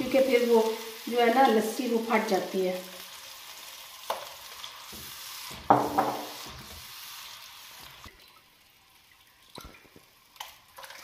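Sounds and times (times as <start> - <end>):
batter sizzling: 0.0 - 10.8.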